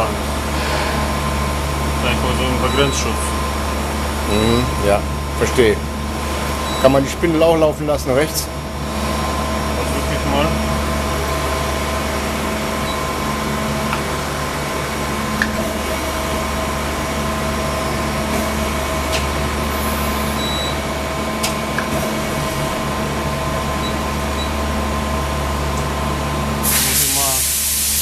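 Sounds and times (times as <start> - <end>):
lathe machine hum: 0.0 - 28.0.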